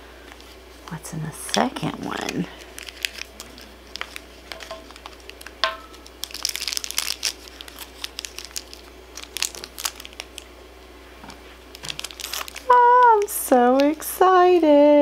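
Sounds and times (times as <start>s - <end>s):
crinkly wrapper crackling: 1.4s - 10.5s, 11.2s - 14.8s.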